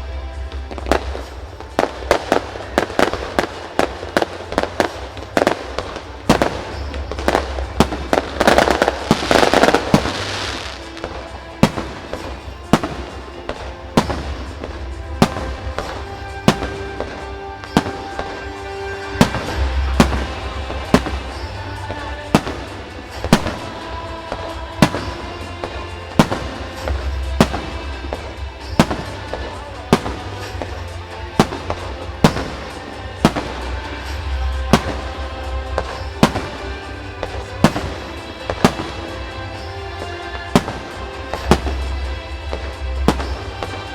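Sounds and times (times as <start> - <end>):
fireworks bursting: 0.0 - 43.9
fireworks crackling: 0.0 - 43.9
music: 0.0 - 43.9.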